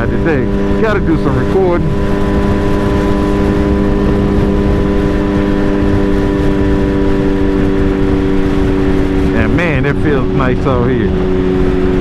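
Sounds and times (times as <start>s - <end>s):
motorcycle engine running: 0.0s - 12.0s
rushing wind and road noise: 0.0s - 12.0s.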